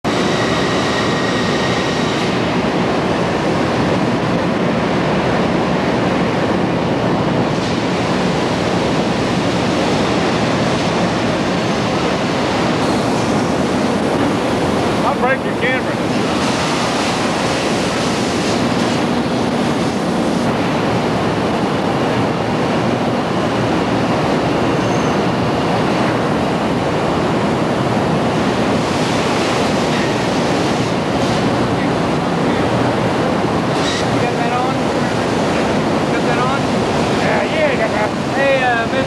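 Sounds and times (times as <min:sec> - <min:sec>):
ventilation rush: 0:00.0 - 0:39.0
factory machinery din: 0:00.1 - 0:39.0.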